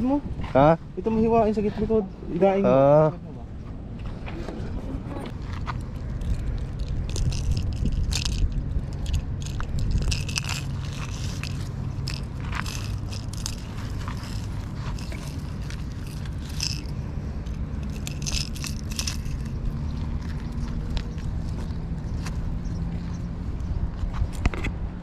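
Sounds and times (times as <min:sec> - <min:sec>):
steady low rumble: 0:03.2 - 0:25.0.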